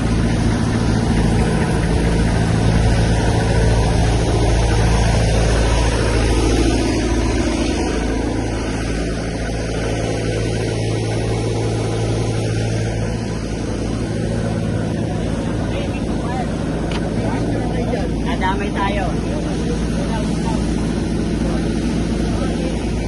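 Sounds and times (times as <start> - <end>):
fire truck engine running: 0.0 - 23.0.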